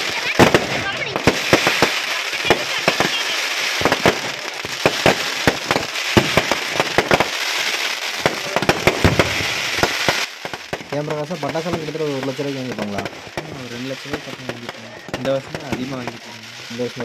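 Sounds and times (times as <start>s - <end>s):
fireworks bangs and pops: 0.0s - 17.0s
fireworks crackle: 0.0s - 17.0s.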